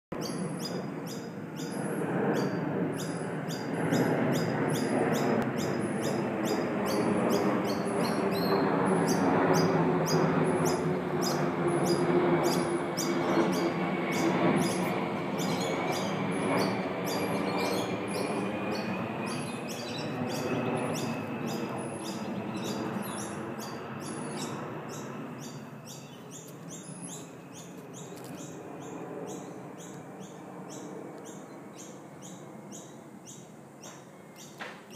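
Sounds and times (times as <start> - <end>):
low drone: 0.2 - 33.5.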